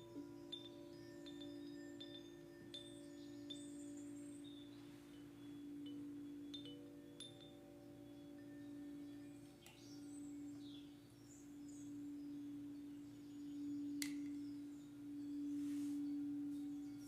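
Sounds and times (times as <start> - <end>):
faint bird chirps: 0.0 - 17.0
singing bowl low tone: 0.0 - 17.0.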